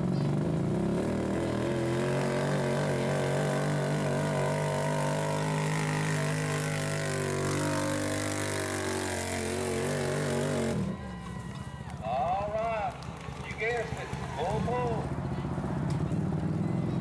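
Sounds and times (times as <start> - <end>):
atv engine running hard: 0.0 - 17.0.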